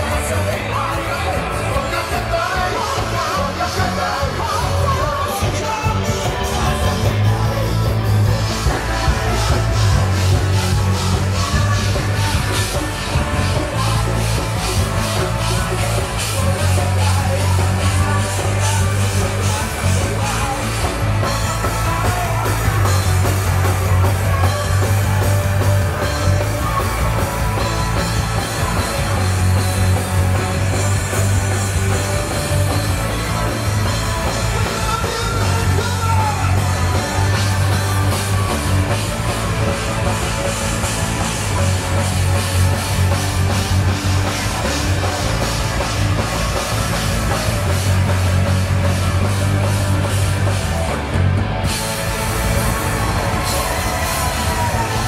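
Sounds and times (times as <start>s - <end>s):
drum kit: 0.0s - 55.0s
heavy bass line: 0.0s - 55.0s
rock band playing: 0.0s - 55.0s.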